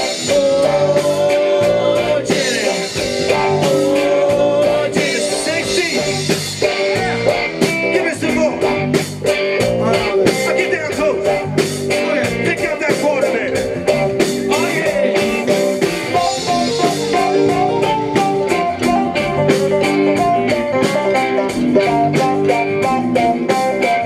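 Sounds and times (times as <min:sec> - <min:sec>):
drums: 0:00.0 - 0:24.0
electric guitar lead: 0:00.0 - 0:24.0
held keyboard chords: 0:00.0 - 0:24.0.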